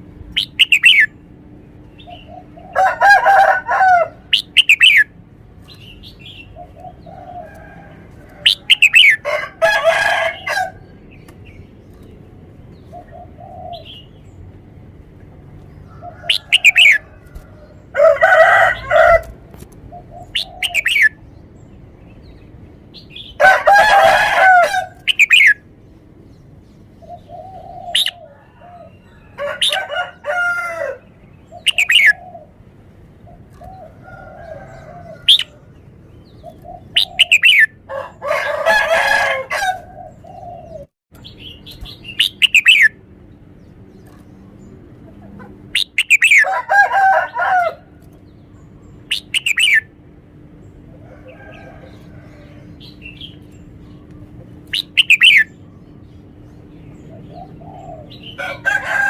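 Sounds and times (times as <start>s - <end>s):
bird song phrases: 0.2s - 32.5s, 33.2s - 59.0s.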